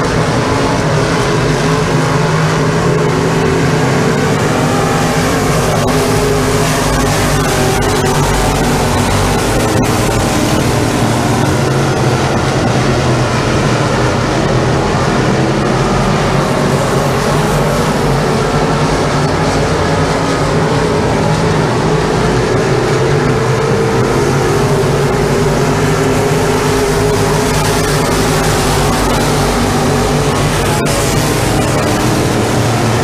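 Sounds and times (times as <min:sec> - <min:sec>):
race car engines droning: 0:00.0 - 0:33.0.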